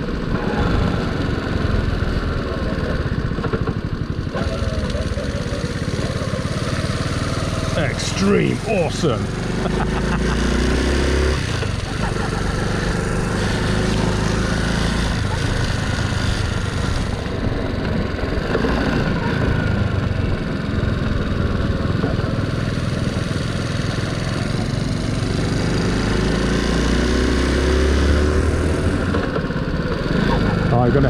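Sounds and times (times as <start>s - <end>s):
moped engine running: 0.0s - 27.6s, 28.3s - 31.0s.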